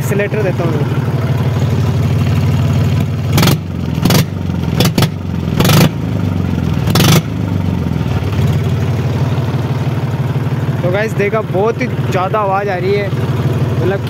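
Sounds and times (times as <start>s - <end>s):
diesel tractor engine revving: 0.0s - 14.0s.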